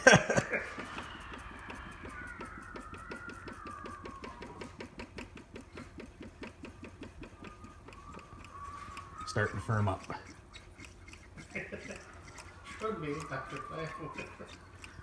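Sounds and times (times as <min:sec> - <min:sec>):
fuel pump ticking: 0:00.0 - 0:15.0.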